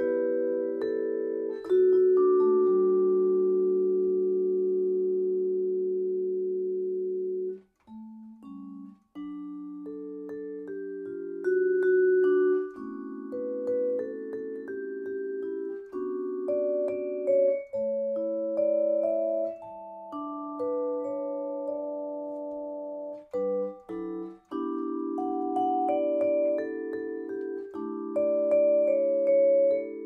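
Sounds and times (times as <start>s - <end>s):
vibraphone chords and melody: 0.0s - 30.0s.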